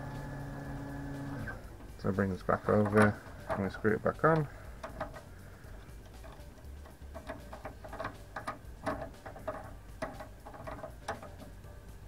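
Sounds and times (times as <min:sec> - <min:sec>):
plucked background music: 0:00.0 - 0:12.0.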